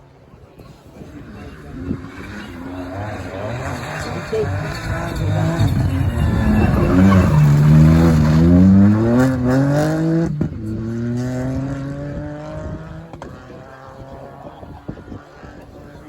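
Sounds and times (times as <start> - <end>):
rally car engine accelerating: 0.6 - 16.0
gear change: 1.0 - 16.0.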